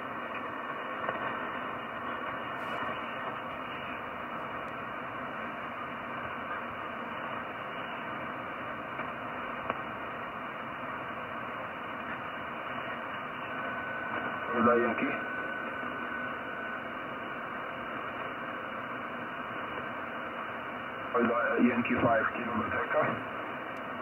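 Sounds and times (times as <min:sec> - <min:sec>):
shortwave radio static hiss: 0:00.0 - 0:24.0.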